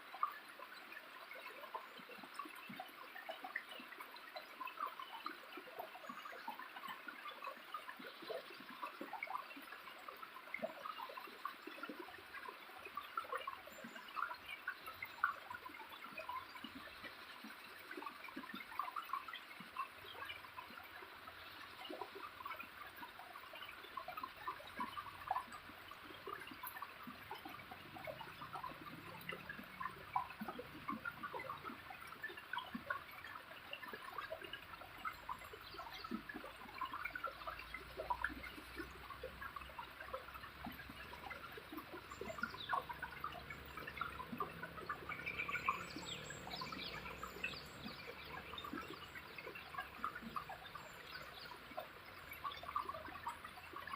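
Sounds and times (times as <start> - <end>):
small waterfall splashing: 0.0 - 53.9.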